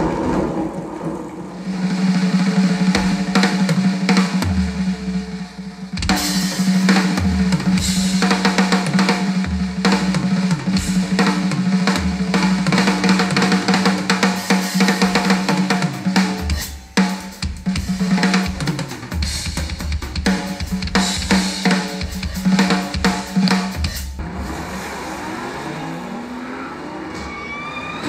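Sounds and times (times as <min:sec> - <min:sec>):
drum kit playing fast: 0:01.6 - 0:24.6.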